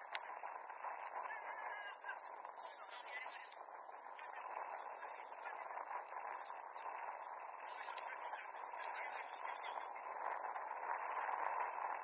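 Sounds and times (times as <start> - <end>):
faint indistinct voices: 0.0 - 12.0
outdoor field noise: 0.0 - 12.0.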